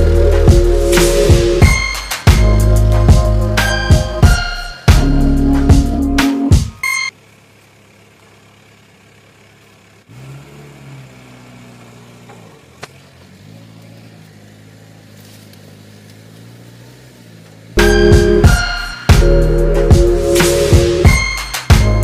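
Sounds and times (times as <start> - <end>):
engine idling: 4.3 - 22.0.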